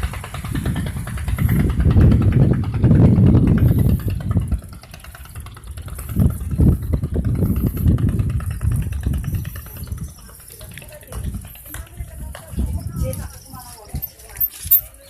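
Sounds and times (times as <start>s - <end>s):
engine idling: 0.0s - 12.5s.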